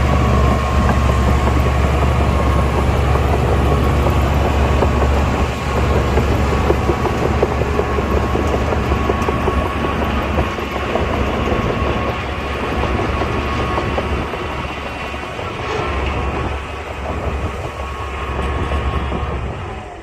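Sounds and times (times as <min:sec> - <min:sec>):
bulldozer diesel engine droning: 0:00.0 - 0:20.0
steel tracks clanking: 0:00.0 - 0:20.0.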